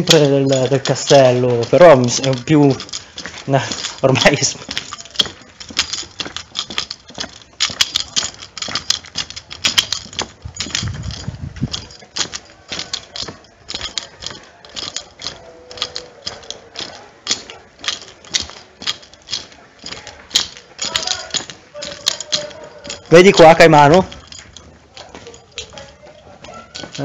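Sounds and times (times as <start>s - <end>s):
footsteps on asphalt: 0.0s - 27.0s.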